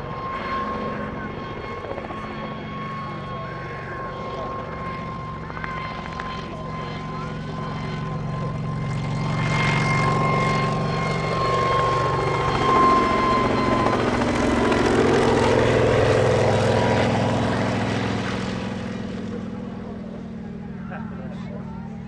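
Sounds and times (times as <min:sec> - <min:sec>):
helicopter engine and rotor noise: 0:00.0 - 0:22.0
thin steady whine: 0:00.0 - 0:22.0.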